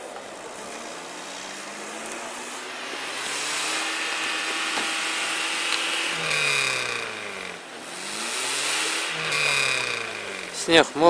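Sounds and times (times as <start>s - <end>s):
wheels spinning in wet snow: 0.0s - 11.0s
engine revving: 0.4s - 11.0s.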